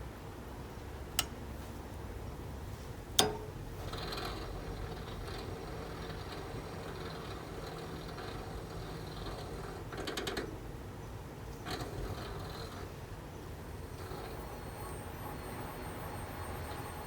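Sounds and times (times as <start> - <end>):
air conditioner hum and fan: 0.0 - 17.0.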